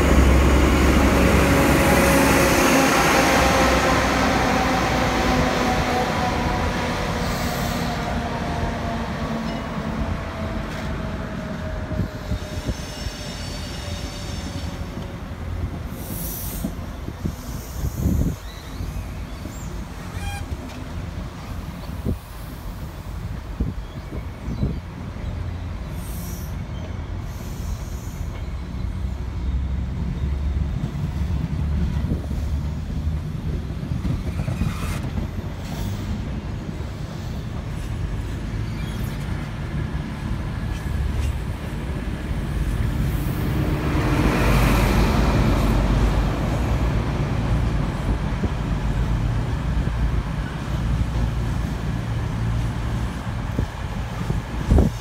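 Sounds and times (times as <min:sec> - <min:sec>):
diesel train passing: 0:00.0 - 0:55.0
wheels rumbling on rail: 0:00.0 - 0:55.0.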